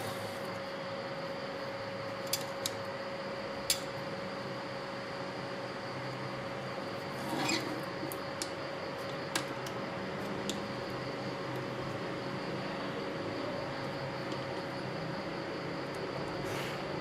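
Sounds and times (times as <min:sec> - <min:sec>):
steady constant hum: 0:00.0 - 0:17.0.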